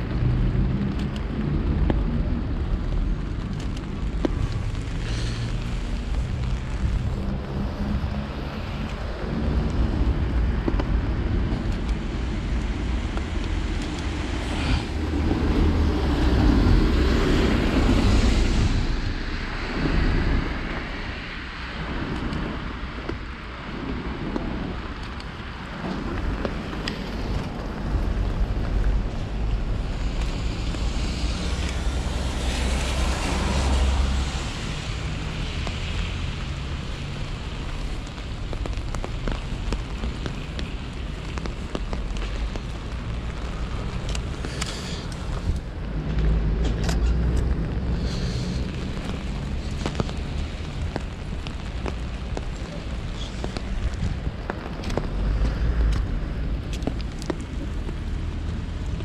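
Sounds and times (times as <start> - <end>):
car tyres swishing on wet asphalt: 0.0 - 59.0
rain-wet street hiss: 0.0 - 59.0
wind rumbling on microphone: 0.0 - 59.0.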